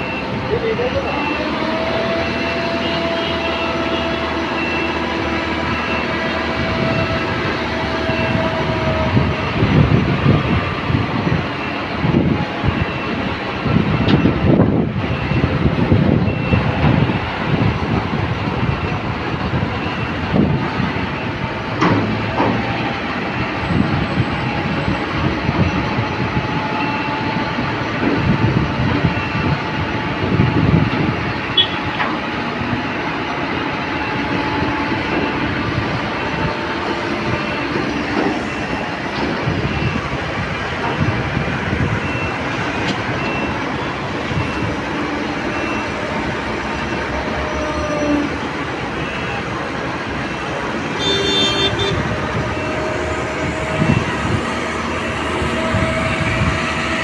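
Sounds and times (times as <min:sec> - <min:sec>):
diesel truck engine running: 0:00.0 - 0:57.0
street traffic passing: 0:00.0 - 0:57.0.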